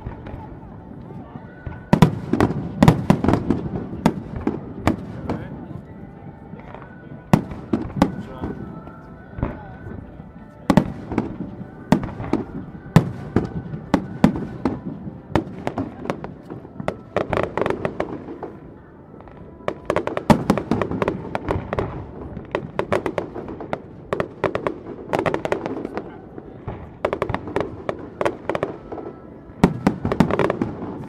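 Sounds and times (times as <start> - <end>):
fireworks bangs: 0.0 - 5.8, 6.5 - 18.6, 19.2 - 31.0
fireworks crackling: 0.0 - 31.0.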